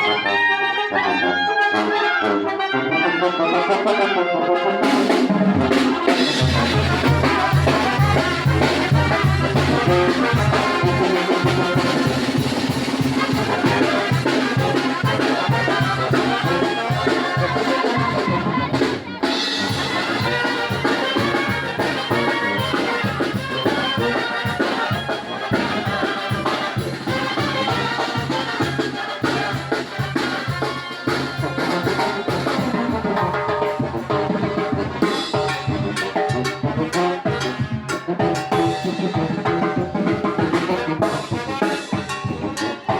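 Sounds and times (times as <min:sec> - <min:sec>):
trombones: 0:00.0 - 0:42.9
trumpets: 0:00.0 - 0:42.9
drums: 0:04.8 - 0:42.9.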